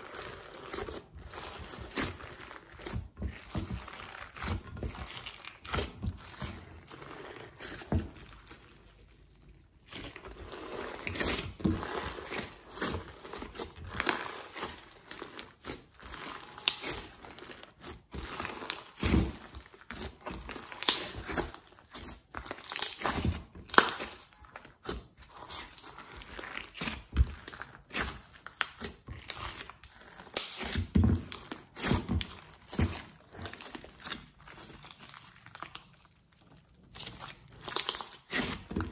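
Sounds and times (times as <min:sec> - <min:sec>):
slime squelching and crackling: 0:00.0 - 0:38.9.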